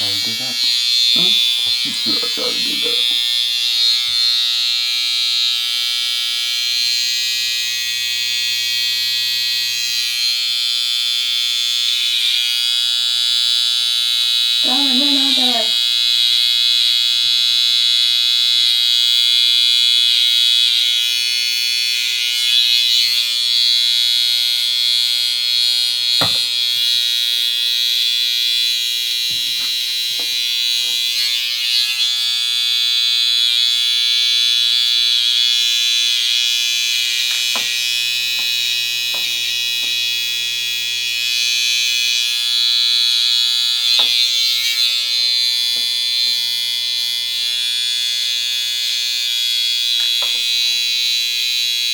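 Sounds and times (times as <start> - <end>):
electric hair clippers buzzing: 0.0 - 51.9.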